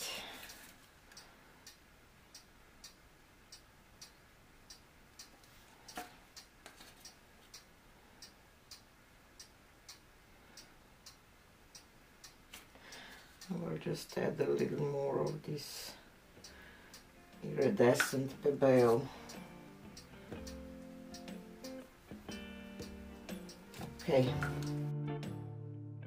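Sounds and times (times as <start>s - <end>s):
faint regular ticking: 0.0s - 24.9s.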